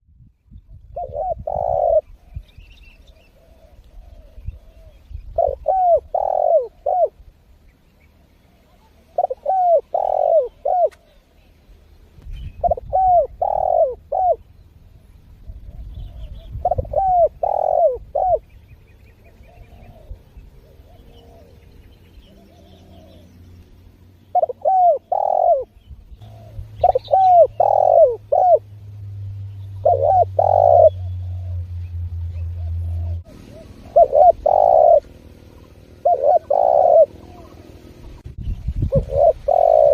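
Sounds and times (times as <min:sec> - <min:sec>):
dove cooing: 0:00.9 - 0:07.2, 0:08.5 - 0:11.5, 0:12.6 - 0:23.4, 0:24.3 - 0:28.8, 0:29.6 - 0:31.8, 0:32.4 - 0:39.9.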